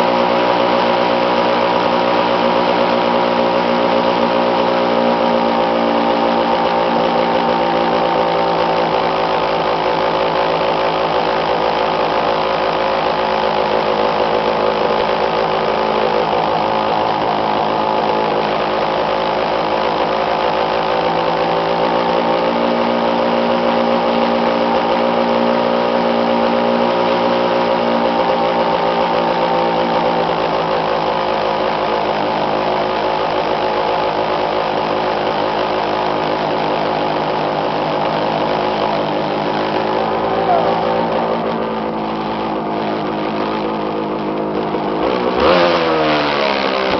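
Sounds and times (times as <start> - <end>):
go-kart engine running: 0.0 - 46.9.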